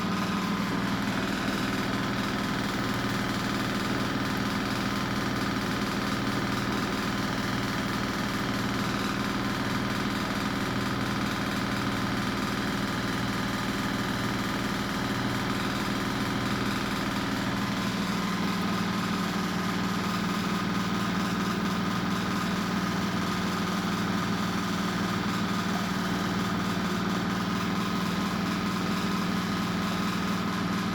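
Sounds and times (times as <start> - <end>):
washing machine motor hum: 0.0 - 30.9.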